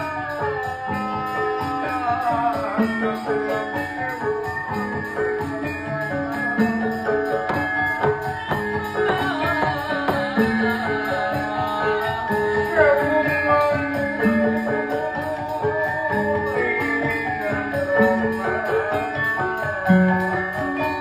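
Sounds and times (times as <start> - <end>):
gamelan pitched notes: 0.0 - 21.0
metallic jingling beat: 0.0 - 21.0
sliding melodic line: 0.0 - 21.0.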